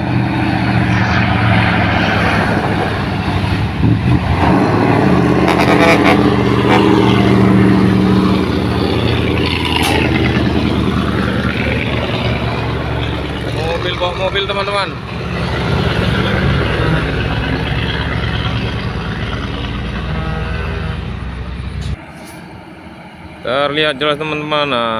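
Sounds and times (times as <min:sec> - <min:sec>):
truck diesel engine straining: 0:02.5 - 0:24.1.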